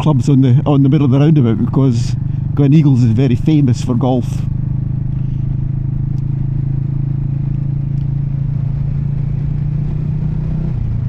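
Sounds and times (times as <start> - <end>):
motorcycle engine running: 0.0 - 11.0
road rumble: 0.0 - 11.0.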